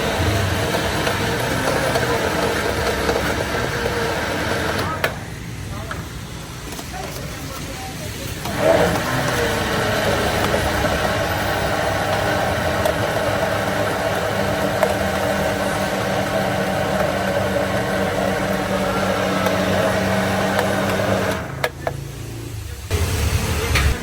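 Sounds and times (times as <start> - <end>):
electric blender running: 0.0 - 24.0.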